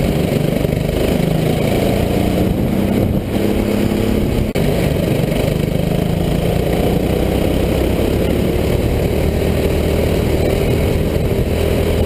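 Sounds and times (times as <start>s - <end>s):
go-kart engine running: 0.0s - 12.0s.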